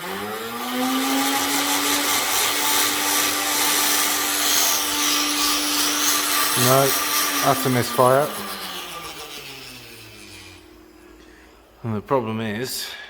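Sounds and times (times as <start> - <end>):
electric motor whining and whirring: 0.0 - 11.6.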